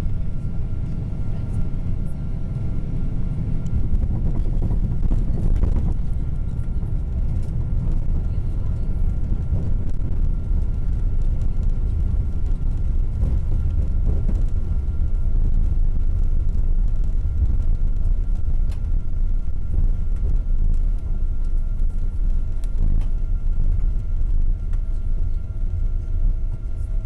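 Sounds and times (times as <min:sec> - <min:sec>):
airliner engine rumble in cabin: 0:00.0 - 0:27.0
faint steady whine: 0:00.0 - 0:27.0.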